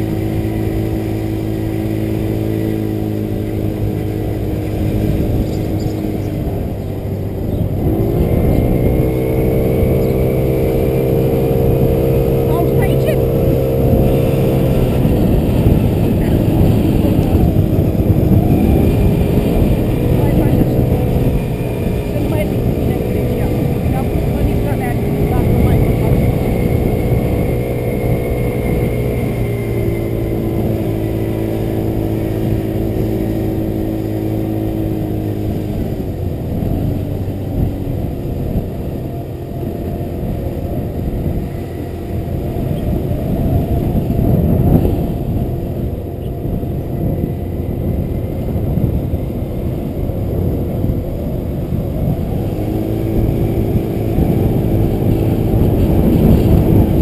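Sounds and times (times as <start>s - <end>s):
motor scooter engine running: 0.0s - 57.0s
wind rumble on microphone: 0.0s - 57.0s.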